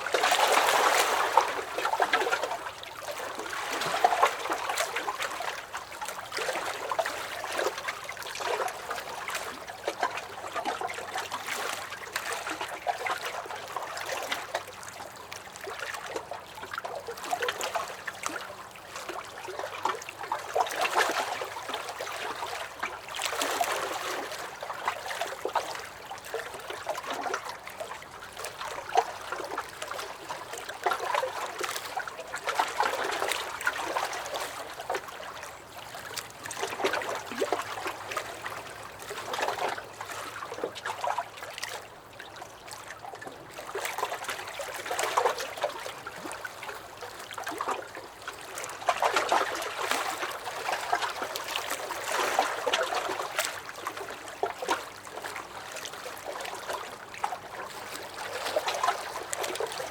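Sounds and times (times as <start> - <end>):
waves lapping against a dock: 0.0 - 59.9.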